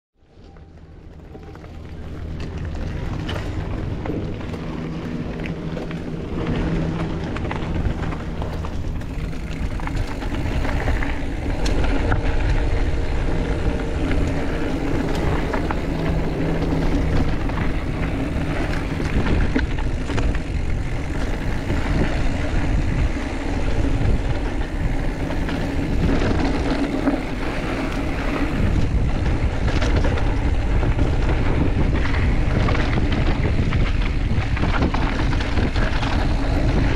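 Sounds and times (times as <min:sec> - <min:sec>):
bike tyre rumble: 0:00.2 - 0:36.9
bike rattling over bumps: 0:00.3 - 0:36.9
wind buffeting microphone: 0:01.0 - 0:36.9.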